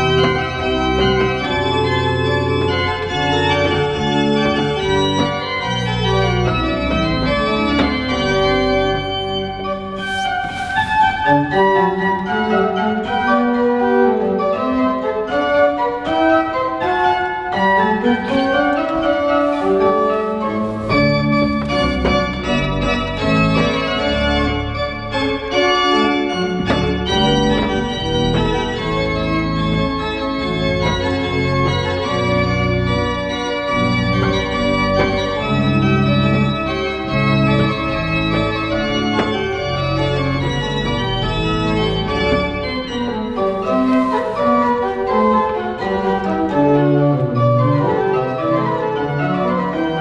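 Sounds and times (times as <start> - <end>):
pipe organ playing: 0.0 - 50.0.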